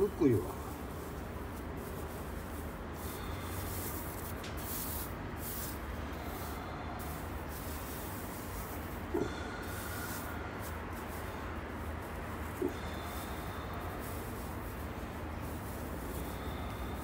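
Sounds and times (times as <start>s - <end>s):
rustling of husk bedding: 0.0s - 17.0s.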